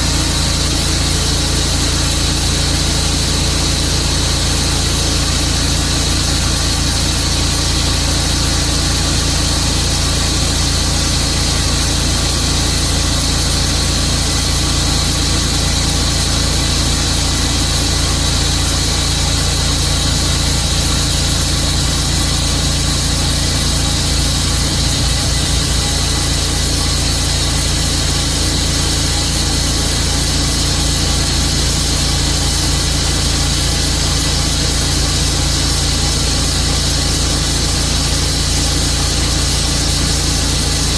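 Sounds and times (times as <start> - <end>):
sawmill blade sawing log: 0.0 - 40.9.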